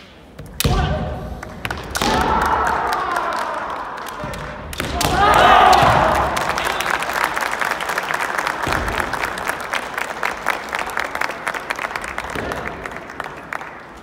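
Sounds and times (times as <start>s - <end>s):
spectators clapping: 1.4s - 14.0s.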